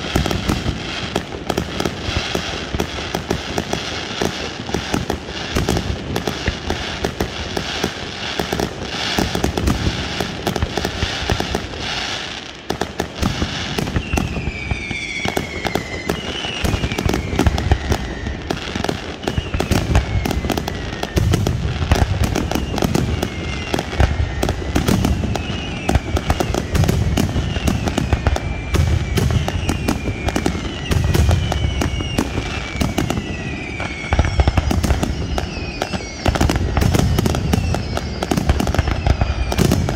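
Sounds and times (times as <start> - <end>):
deep fireworks booms: 0.0 - 39.9
fireworks crackling and popping: 0.0 - 39.9
whistling fireworks: 0.0 - 39.9.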